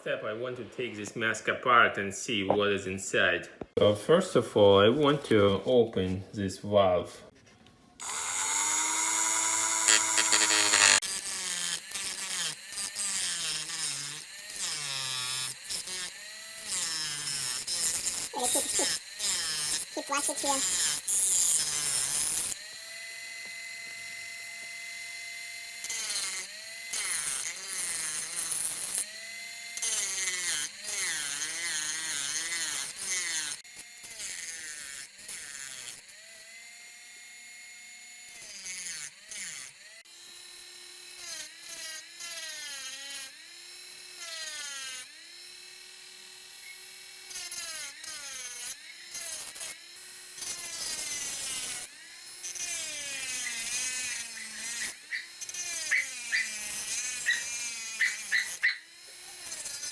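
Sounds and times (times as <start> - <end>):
electric power tool whining: 8.0 - 59.9.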